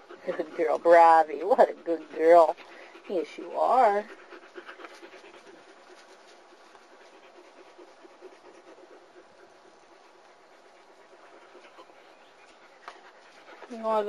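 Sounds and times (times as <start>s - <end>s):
puppy panting: 0.0s - 14.0s.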